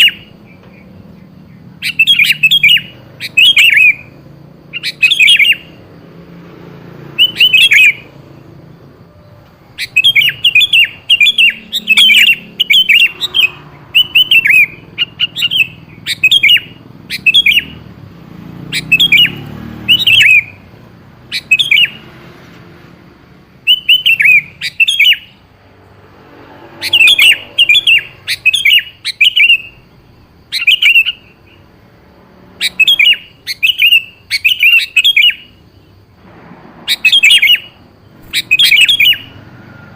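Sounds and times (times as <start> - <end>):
bulbul whistled calls: 0.0 - 5.8, 7.1 - 8.2, 9.0 - 17.9, 18.6 - 22.1, 23.6 - 25.4, 26.8 - 31.7, 32.6 - 35.9, 36.8 - 39.9.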